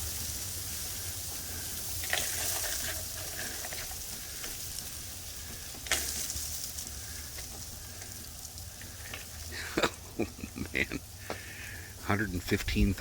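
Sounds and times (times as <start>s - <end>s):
freezing rain on icy leaves: 0.0s - 13.0s.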